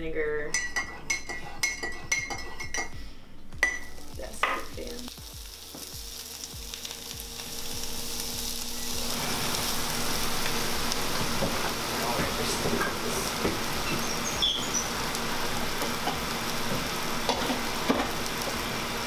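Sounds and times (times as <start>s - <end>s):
food sizzling in a pan: 3.7s - 19.0s.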